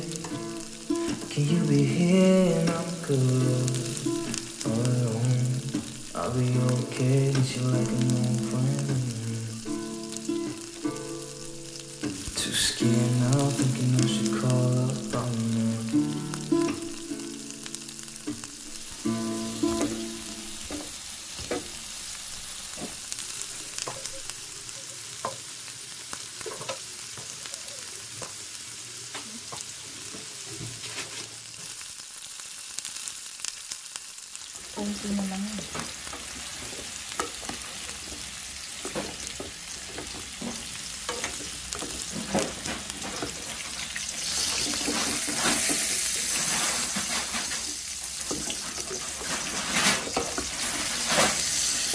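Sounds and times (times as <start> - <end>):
shrimp sizzling in oil: 0.0 - 51.9.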